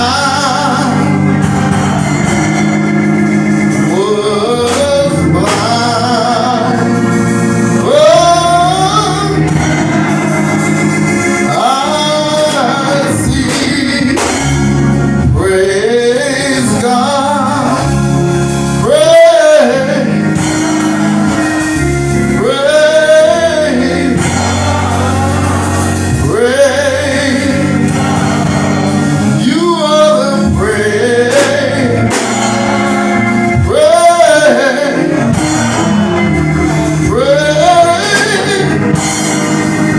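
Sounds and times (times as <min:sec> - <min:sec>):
person singing gospel: 0:00.0 - 0:39.9
sustained keyboard chords: 0:00.0 - 0:39.9.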